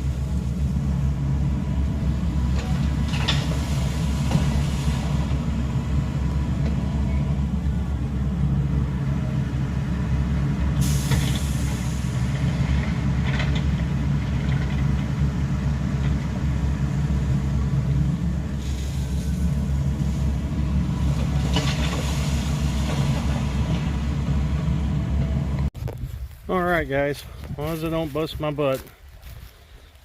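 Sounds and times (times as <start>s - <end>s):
large engine running: 0.0s - 25.7s.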